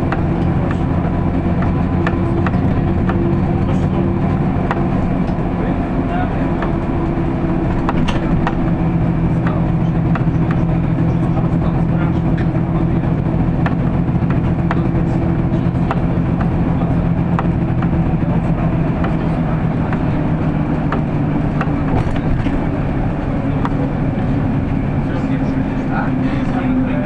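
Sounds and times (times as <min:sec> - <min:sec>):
clicks and rattles of bus body: 0:00.0 - 0:26.8
bus engine droning: 0:00.0 - 0:27.0.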